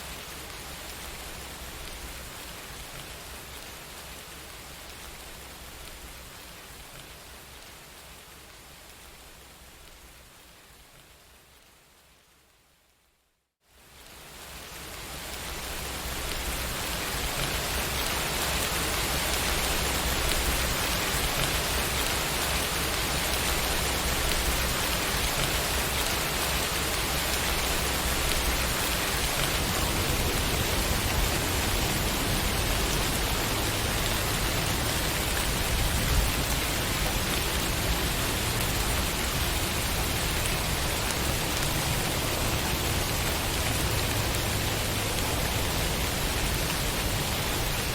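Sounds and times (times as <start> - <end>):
steady rain hiss: 0.0 - 13.0, 13.6 - 47.9.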